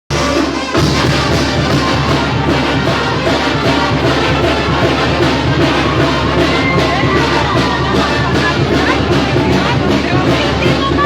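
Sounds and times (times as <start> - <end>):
brass band music: 0.1 - 11.0
drums playing loudly: 0.1 - 11.0.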